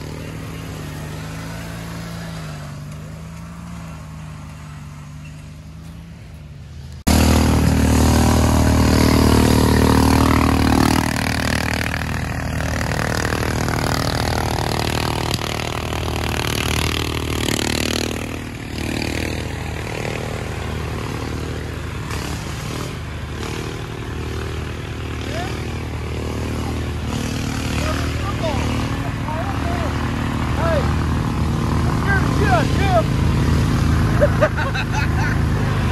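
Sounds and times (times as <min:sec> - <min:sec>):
lawn mower engine running hard: 0:00.0 - 0:35.9.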